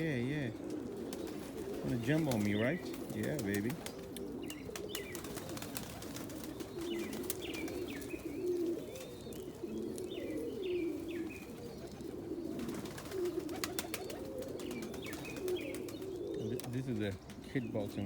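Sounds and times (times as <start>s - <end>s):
birds chirping: 0.0s - 18.0s
pigeons cooing: 0.0s - 18.0s.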